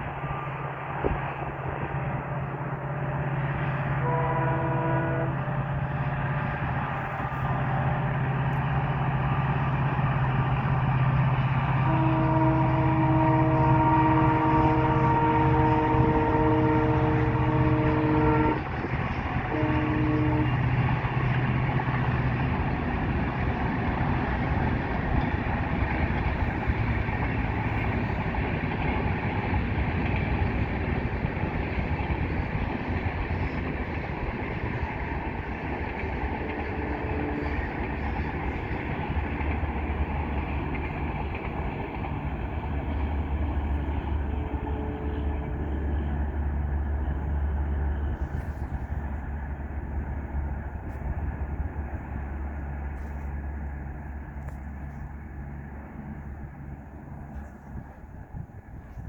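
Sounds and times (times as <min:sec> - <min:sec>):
diesel locomotive horn: 0:00.0 - 0:59.0
train rumble and rail noise: 0:00.0 - 0:59.0.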